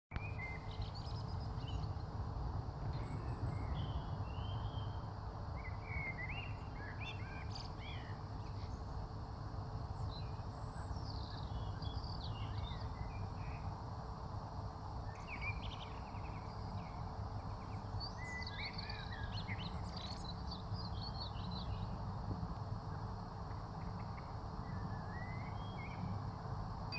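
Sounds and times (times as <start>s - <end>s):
birds chirping and twittering: 0.1s - 2.2s, 2.9s - 9.1s, 9.8s - 13.8s, 15.0s - 22.1s, 23.0s - 26.4s.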